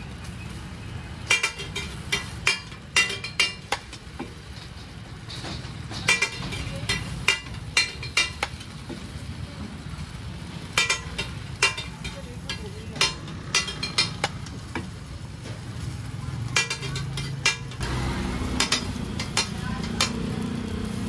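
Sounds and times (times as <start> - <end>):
metal spatula scraping a griddle: 1.3 - 8.8, 10.6 - 20.4.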